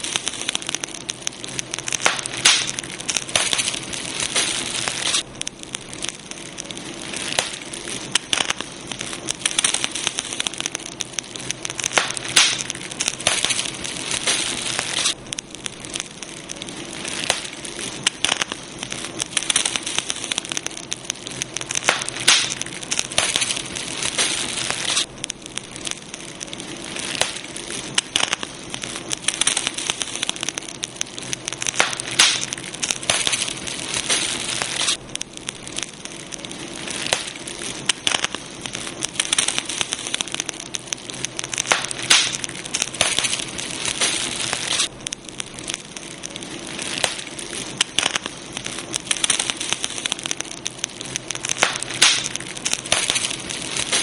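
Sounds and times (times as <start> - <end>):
campfire wood crackling: 0.0 - 54.0
fire hiss: 0.0 - 54.0.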